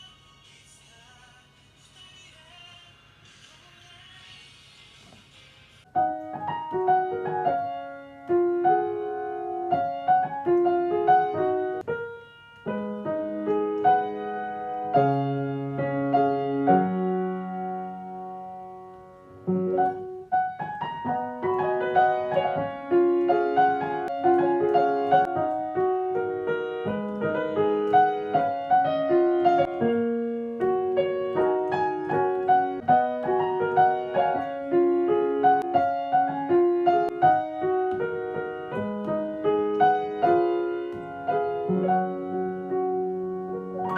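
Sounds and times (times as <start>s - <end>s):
piano playing pop melody: 5.9s - 43.9s.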